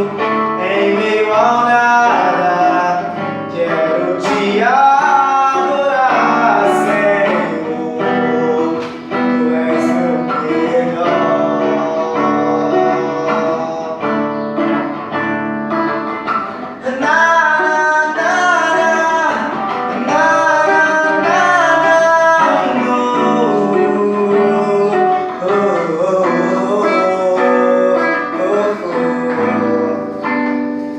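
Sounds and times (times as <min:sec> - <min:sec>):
man singing: 0:00.0 - 0:30.9
strummed acoustic guitar: 0:00.0 - 0:30.9.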